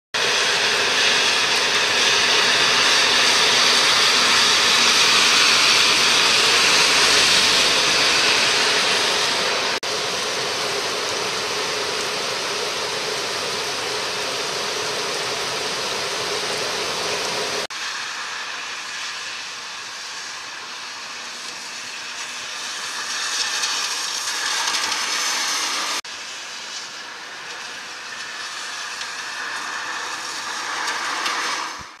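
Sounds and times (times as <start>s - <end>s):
heavy rain hissing: 0.2s - 32.0s
river pouring over a weir: 0.2s - 32.0s.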